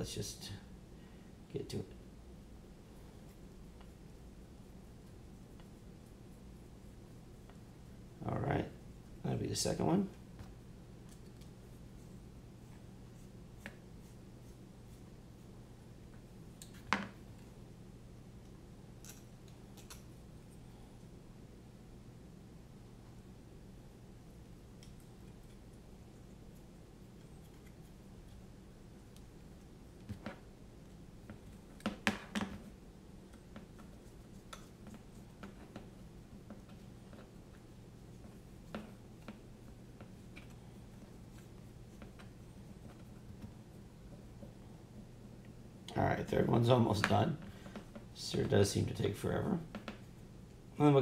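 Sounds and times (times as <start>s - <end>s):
low room hum: 0.0s - 51.0s.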